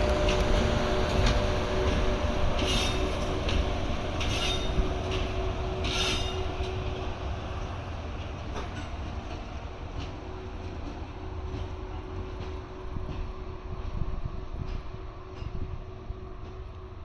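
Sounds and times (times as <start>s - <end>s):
electric locomotive rumbling: 0.0s - 17.0s.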